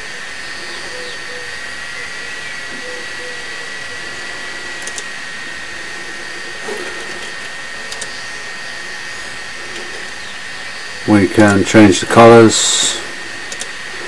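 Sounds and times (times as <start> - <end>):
thin high whine: 0.0 - 14.0.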